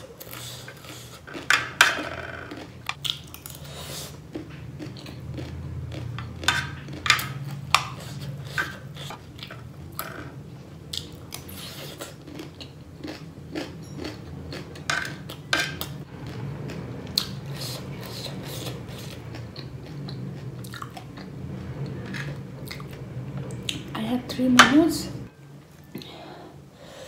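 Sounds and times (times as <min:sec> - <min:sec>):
crunchy chewing: 0:00.0 - 0:10.1, 0:10.9 - 0:23.0
low steady hum: 0:00.0 - 0:27.0.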